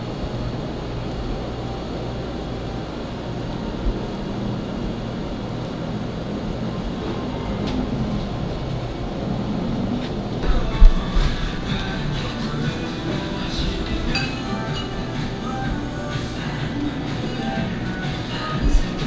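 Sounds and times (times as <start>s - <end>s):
low mechanical rumble with hum: 0.0s - 19.0s.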